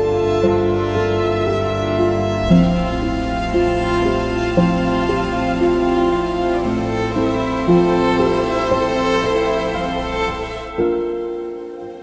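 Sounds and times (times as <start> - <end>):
slow music of held notes: 0.0 - 12.0.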